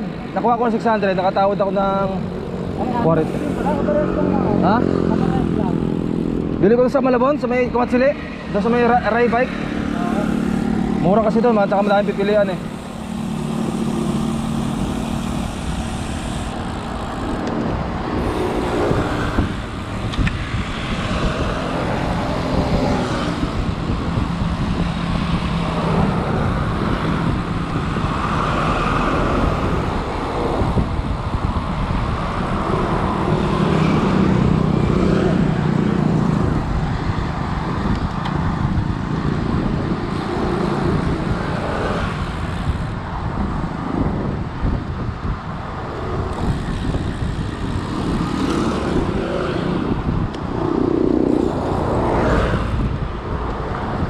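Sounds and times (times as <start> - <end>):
steady engine hum: 0.0 - 54.0
vehicles passing: 0.0 - 54.0.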